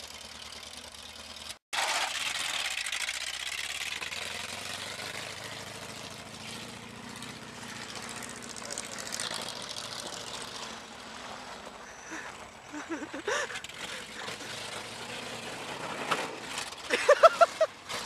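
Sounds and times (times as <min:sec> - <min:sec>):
van engine driving away: 0:00.0 - 0:18.0.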